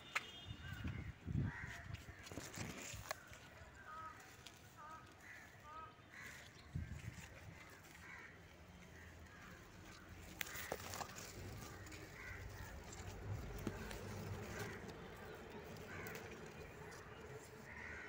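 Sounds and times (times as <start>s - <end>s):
leaves rustling against phone: 1.5s - 18.0s.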